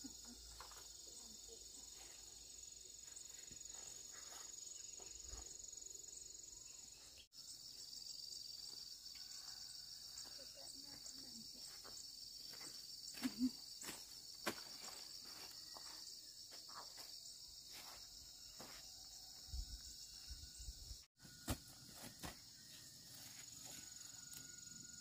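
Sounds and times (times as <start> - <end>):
insects chirring trill: 0.0 - 25.0.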